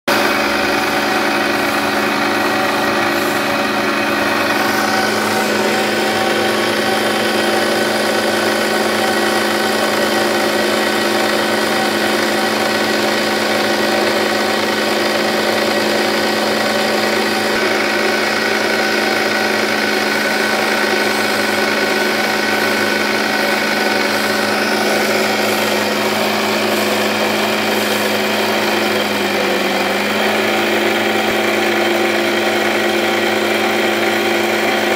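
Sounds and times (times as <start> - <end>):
electric motor humming: 0.1 - 34.9.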